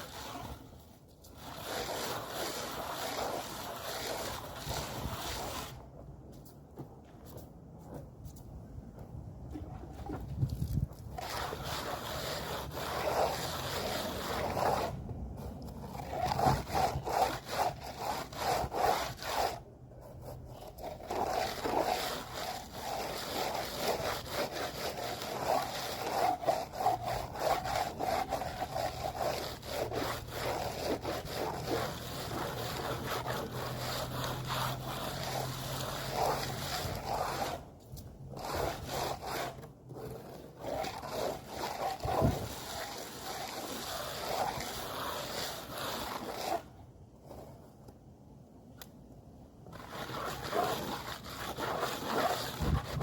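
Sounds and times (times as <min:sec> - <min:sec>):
hand tool scraping a surface: 0:00.0 - 0:05.8, 0:09.6 - 0:46.7, 0:49.7 - 0:53.0.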